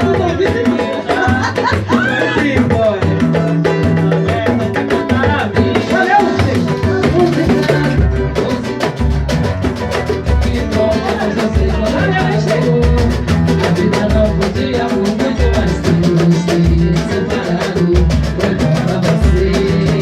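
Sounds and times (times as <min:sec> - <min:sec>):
voices singing: 0:00.0 - 0:09.0, 0:10.3 - 0:20.0
drums and percussion rhythm: 0:00.0 - 0:20.0.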